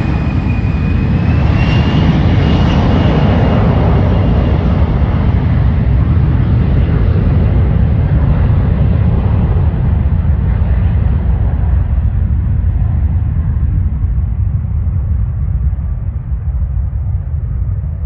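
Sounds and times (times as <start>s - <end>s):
airplane engine noise: 0.0s - 18.0s
heavy low rumble: 0.0s - 18.0s.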